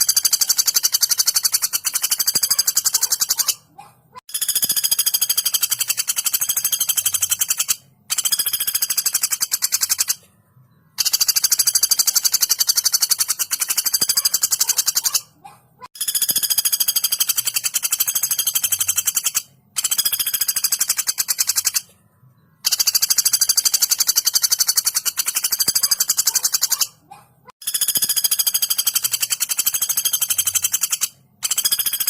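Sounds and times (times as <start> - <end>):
woodpecker rattling call: 0.0 - 10.2, 11.0 - 21.9, 22.6 - 27.0, 27.6 - 32.0.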